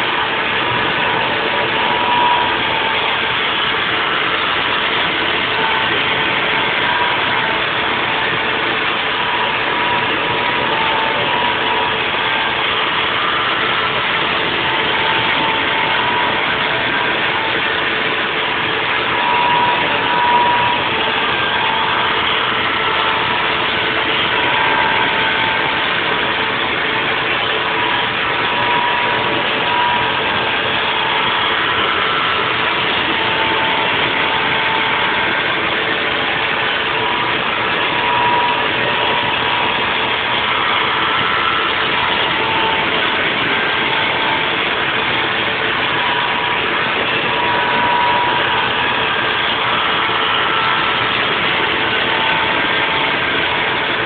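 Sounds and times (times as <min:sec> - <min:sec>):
milling machine whining: 0:00.0 - 0:54.0.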